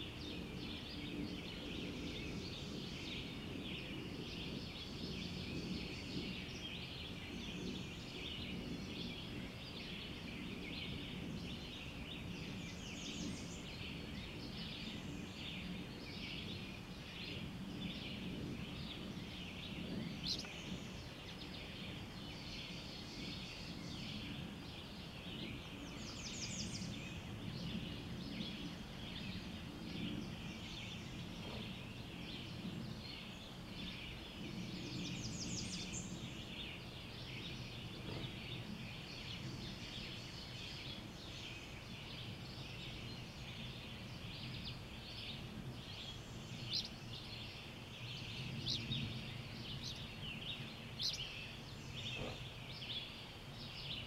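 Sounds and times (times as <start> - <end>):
many birds singing: 0.0 - 54.0
low steady rumble: 0.1 - 54.0.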